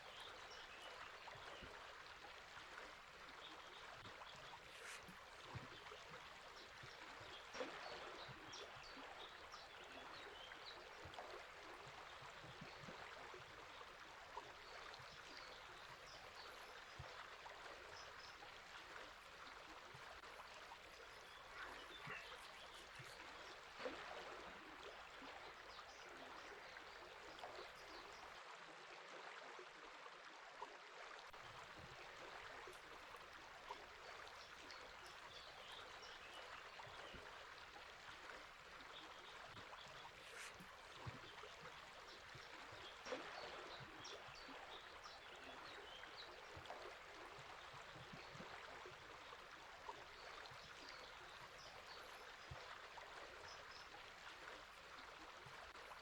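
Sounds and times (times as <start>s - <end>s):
flowing river water: 0.0s - 56.0s.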